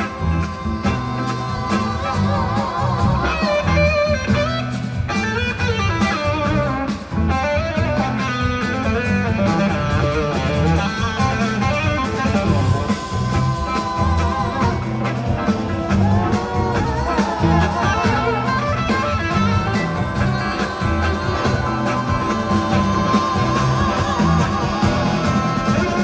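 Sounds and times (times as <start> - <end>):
bass guitar: 0.0 - 26.0
drums: 0.0 - 26.0
electric guitar lines: 0.0 - 26.0.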